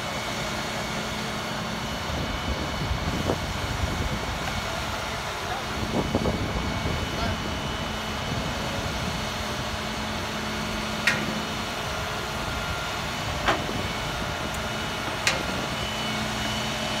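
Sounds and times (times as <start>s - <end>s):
heavy equipment engine running: 0.0s - 17.0s.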